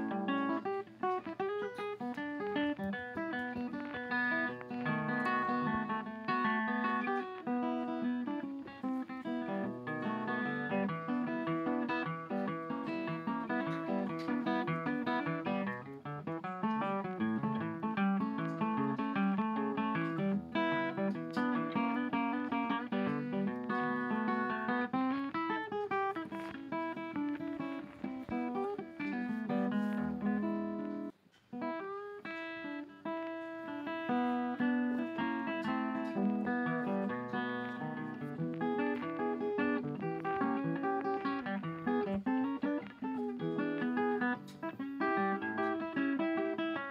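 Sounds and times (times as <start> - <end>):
acoustic guitar melody: 0.0 - 46.9.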